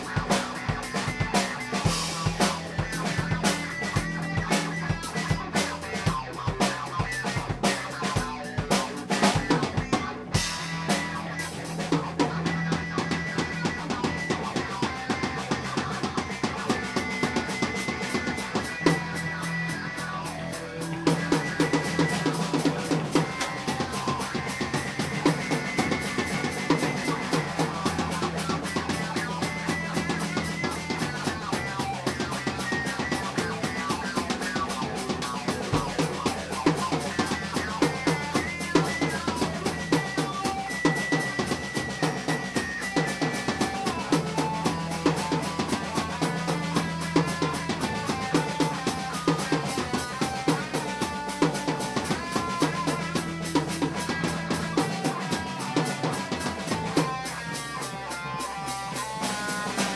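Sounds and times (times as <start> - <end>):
bass line: 0.0 - 59.9
fast drum-kit beat: 0.0 - 59.9.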